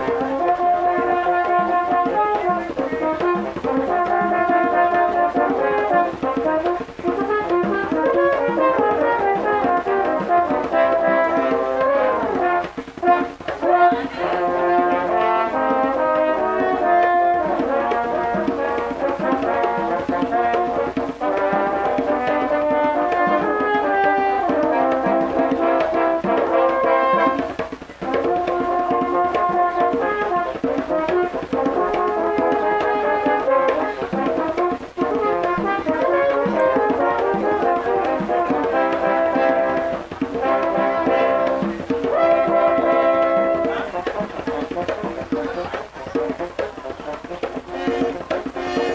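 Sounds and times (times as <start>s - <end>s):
barrel drum beat: 0.0s - 48.9s
french horns playing in harmony: 0.0s - 48.9s.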